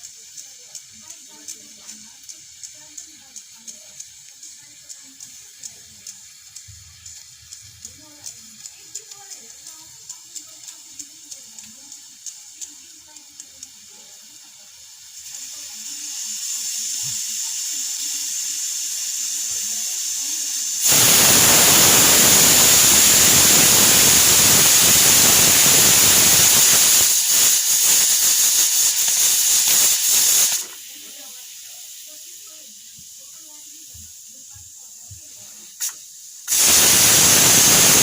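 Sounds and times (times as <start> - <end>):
pressure cooker steam hissing: 0.0 - 38.0.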